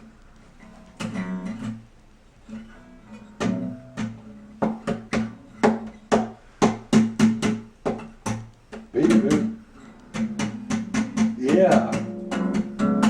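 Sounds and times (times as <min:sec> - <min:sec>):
guitar strings banged and strummed: 0:00.6 - 0:01.8, 0:02.5 - 0:13.0.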